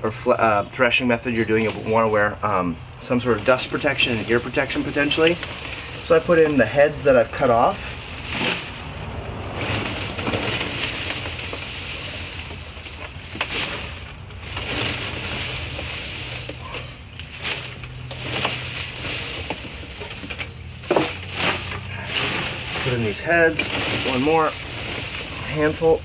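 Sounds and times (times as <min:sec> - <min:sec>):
dry grain stalks rustling: 0:00.0 - 0:26.0.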